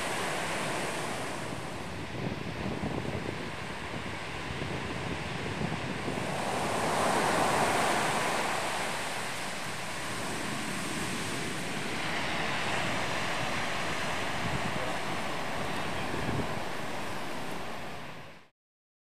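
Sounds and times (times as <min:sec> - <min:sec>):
ocean surf breaking: 0:00.0 - 0:18.5.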